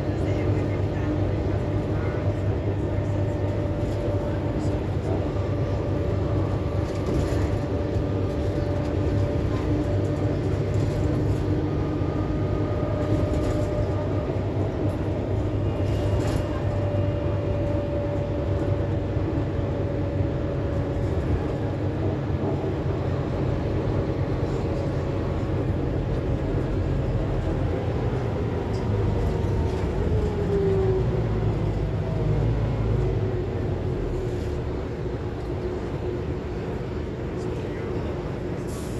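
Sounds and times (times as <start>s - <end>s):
bus engine and road rumble: 0.0s - 38.9s.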